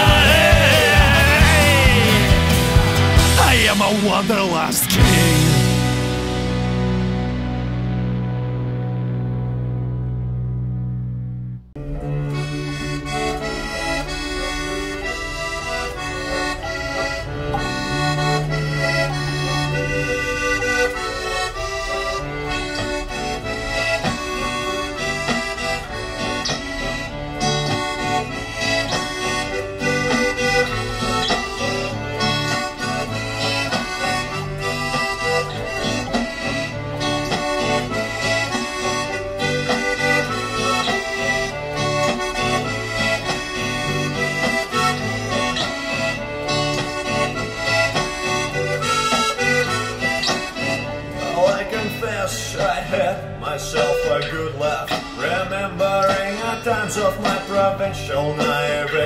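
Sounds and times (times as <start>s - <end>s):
accordion-led folk-punk music: 0.0s - 59.0s.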